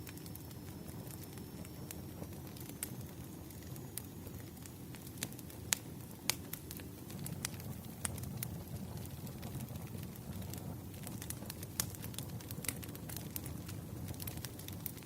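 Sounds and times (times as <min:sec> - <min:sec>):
campfire crackles and pops: 0:00.0 - 0:15.0
low rush of flames: 0:00.0 - 0:15.0.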